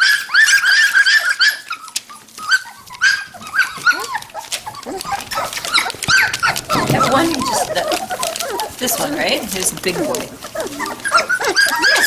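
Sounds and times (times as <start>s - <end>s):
puppies whimpering and yipping: 0.0s - 12.0s.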